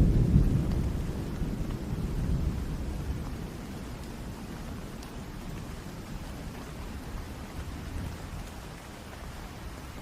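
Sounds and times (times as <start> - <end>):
steady rain falling: 0.0 - 10.0
thunder rumble: 0.0 - 10.0.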